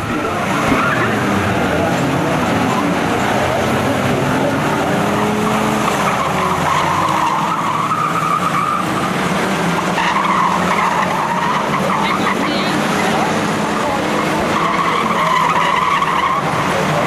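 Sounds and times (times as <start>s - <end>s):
race car engines running hard: 0.0s - 17.0s.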